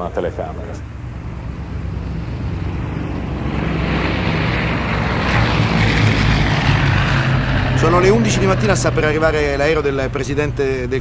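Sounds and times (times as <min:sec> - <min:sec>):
engine droning: 0:00.0 - 0:11.0
rushing noise: 0:00.8 - 0:11.0.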